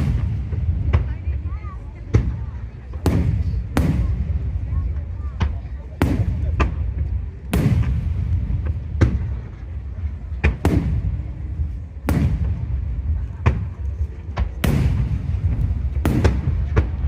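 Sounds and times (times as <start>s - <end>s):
fireworks bangs: 0.0s - 17.0s
low rumble: 0.0s - 17.0s.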